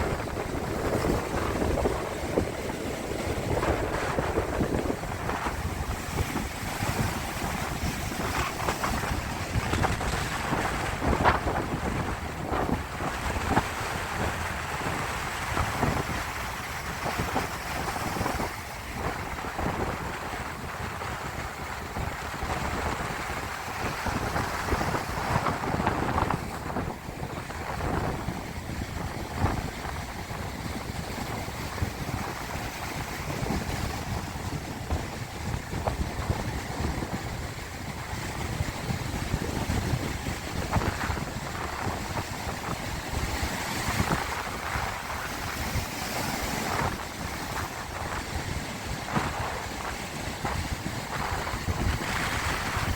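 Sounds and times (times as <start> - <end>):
sea waves washing: 0.0 - 52.9
wind buffeting microphone: 0.0 - 52.9.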